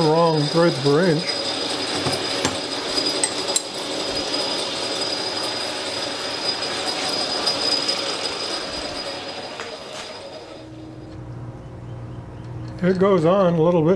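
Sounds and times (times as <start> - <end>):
metal lathe whining and clattering: 0.0 - 11.6, 12.2 - 13.9.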